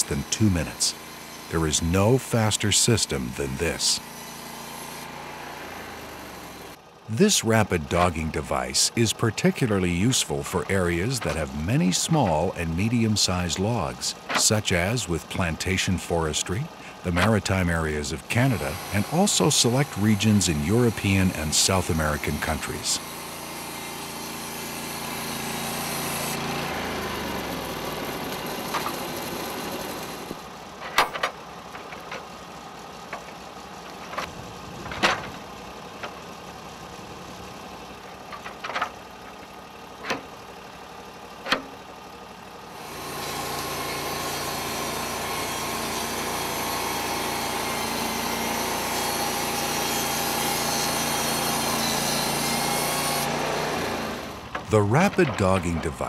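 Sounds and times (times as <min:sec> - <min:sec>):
band sawmill running: 0:00.0 - 0:56.0.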